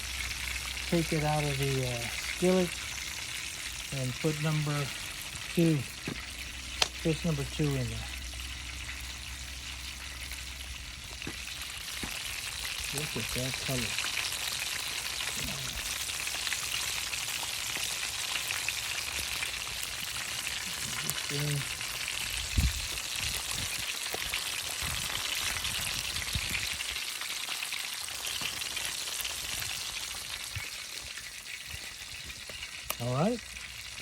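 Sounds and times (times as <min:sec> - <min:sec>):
fish sizzling in a skillet: 0:00.0 - 0:34.0.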